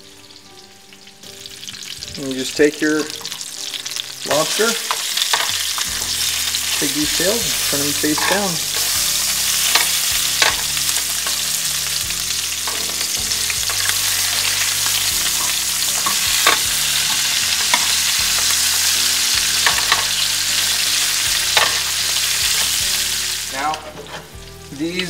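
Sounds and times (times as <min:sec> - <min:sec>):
frying sizzle: 0:00.0 - 0:25.0.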